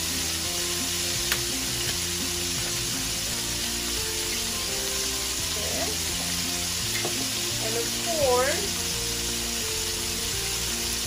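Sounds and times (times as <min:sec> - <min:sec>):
background music: 0:00.0 - 0:11.0
meat sizzling in a frying pan: 0:00.0 - 0:11.0.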